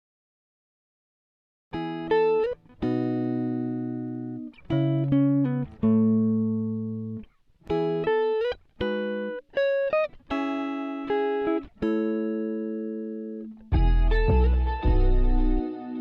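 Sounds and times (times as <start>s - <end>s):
guitar playing slow melody: 1.7s - 16.0s.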